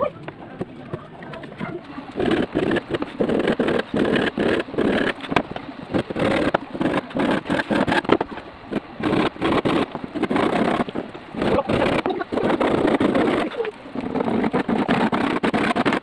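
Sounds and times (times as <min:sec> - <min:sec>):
handsaw cutting wood: 0:02.2 - 0:05.3, 0:05.9 - 0:16.0.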